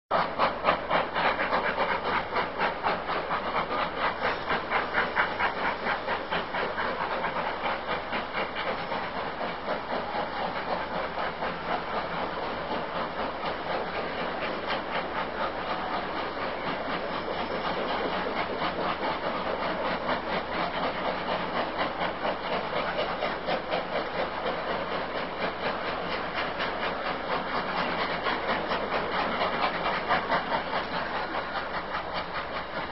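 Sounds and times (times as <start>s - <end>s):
steam hissing: 0.1s - 32.9s
steam locomotive chuffing: 0.1s - 32.9s.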